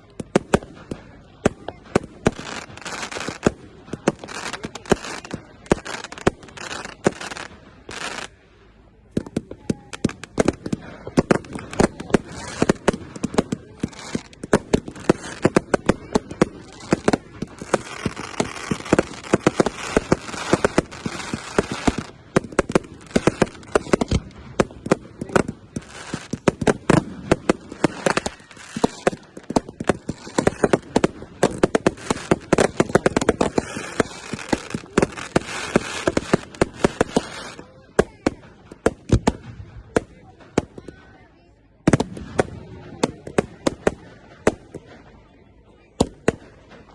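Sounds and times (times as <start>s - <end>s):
fireworks bangs: 0.0s - 8.4s, 9.0s - 46.9s
fireworks hissing crackle: 0.0s - 41.1s.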